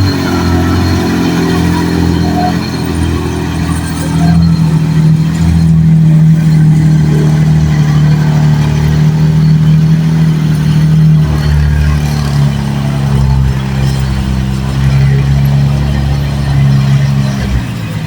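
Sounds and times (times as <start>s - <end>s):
engine droning under load: 0.0s - 18.0s.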